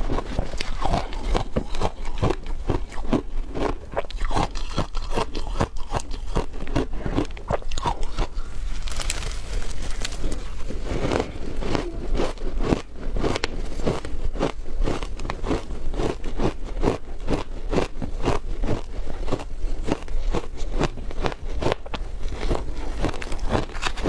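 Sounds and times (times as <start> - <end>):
crunching frozen ice: 0.0 - 24.0.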